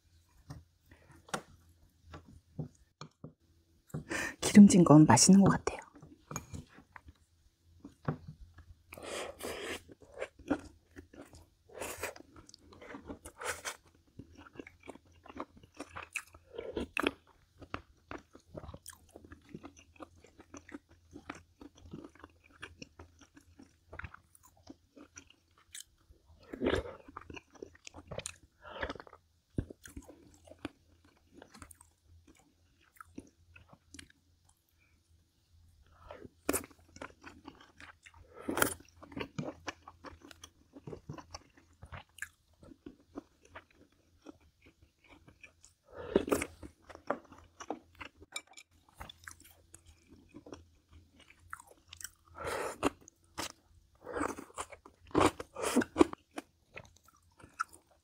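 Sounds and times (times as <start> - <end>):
person chewing food: 5.8 - 35.0, 35.8 - 58.0.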